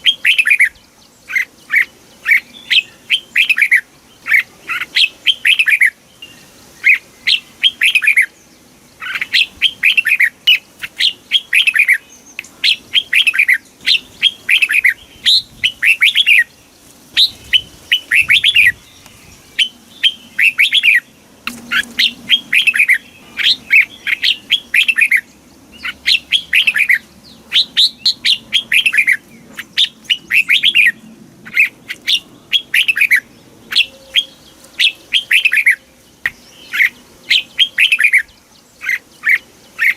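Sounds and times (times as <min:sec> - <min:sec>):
bird singing bright notes: 0:00.0 - 0:39.9.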